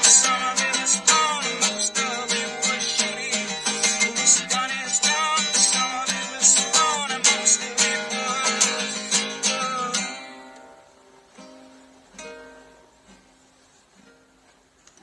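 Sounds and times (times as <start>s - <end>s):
acoustic guitar strumming: 0.0s - 14.8s.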